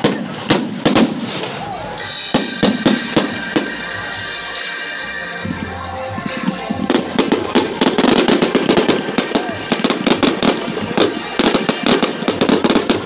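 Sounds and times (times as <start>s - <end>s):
fireworks bangs and crackles: 0.0s - 4.8s, 5.4s - 13.0s.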